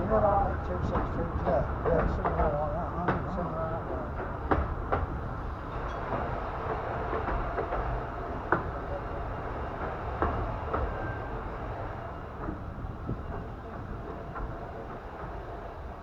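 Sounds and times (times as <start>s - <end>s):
railway carriage rumbling: 0.0s - 16.0s
wheels clicking on rails: 0.0s - 16.0s.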